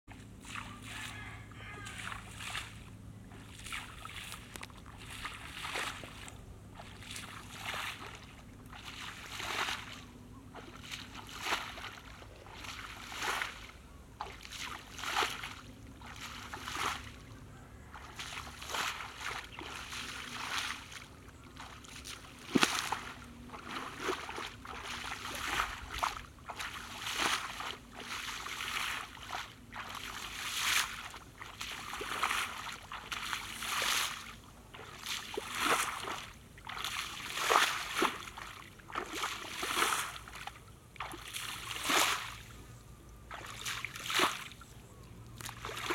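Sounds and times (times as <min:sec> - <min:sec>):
footsteps splashing through water: 0:00.1 - 0:42.6, 0:43.2 - 0:45.9.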